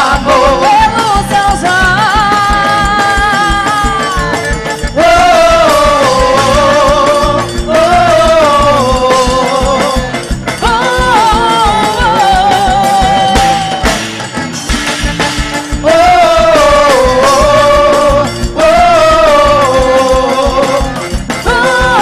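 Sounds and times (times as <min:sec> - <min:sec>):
steady low drum beat: 0:00.0 - 0:22.0.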